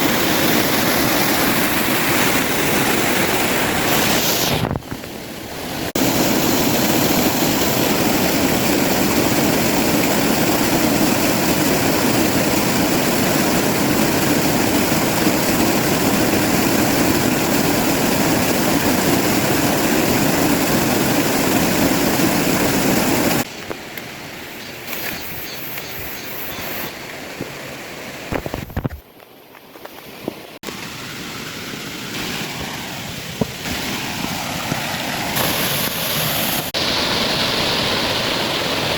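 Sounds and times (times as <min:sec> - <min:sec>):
waterfall rushing: 0:00.0 - 0:28.4, 0:30.5 - 0:38.9.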